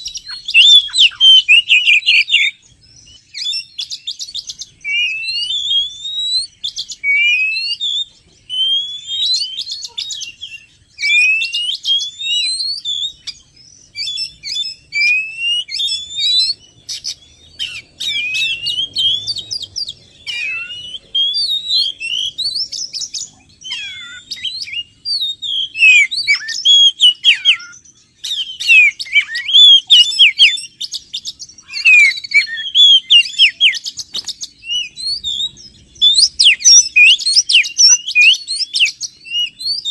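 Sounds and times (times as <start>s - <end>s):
magpie-robin singing whistled phrases: 0.0s - 39.9s.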